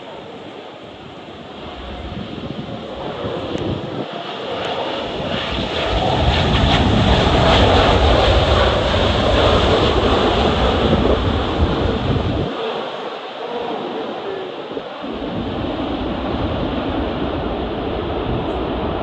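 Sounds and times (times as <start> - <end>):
jet airliner passing: 0.0 - 19.0
wind buffeting microphone: 0.1 - 19.0.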